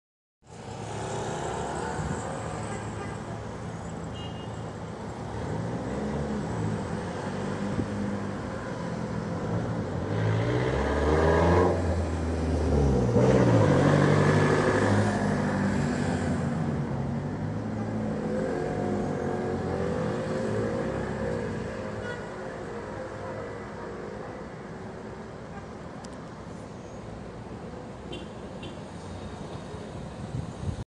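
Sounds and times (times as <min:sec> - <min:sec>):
street traffic engines: 0:00.4 - 0:30.8.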